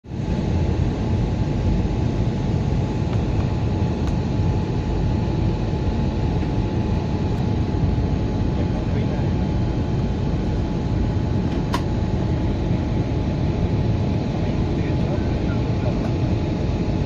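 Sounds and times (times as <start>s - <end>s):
aircraft cabin roar: 0.1s - 17.0s.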